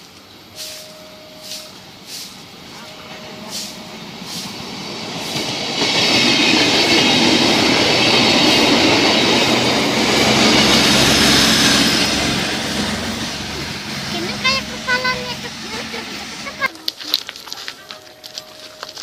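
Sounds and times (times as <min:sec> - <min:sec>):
train wheels rushing on track: 0:00.0 - 0:19.0
high steady tones: 0:00.4 - 0:16.8.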